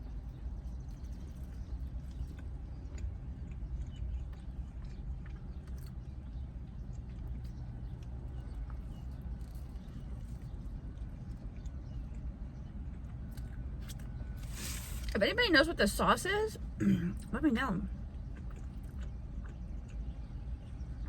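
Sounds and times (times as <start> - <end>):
chewing sandwich: 0.0 - 15.1, 17.9 - 21.0
steady low hum: 0.0 - 21.0.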